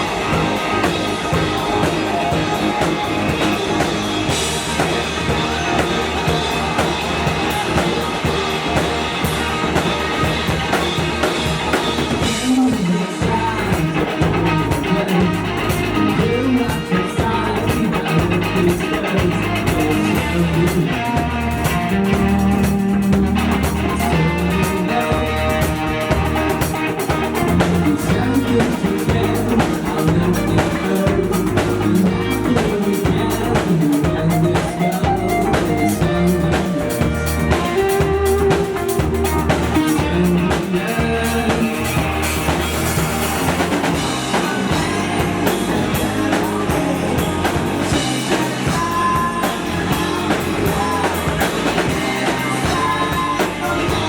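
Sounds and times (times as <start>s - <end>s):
drum kit beat: 0.0s - 54.0s
rock band playing live: 0.0s - 54.0s.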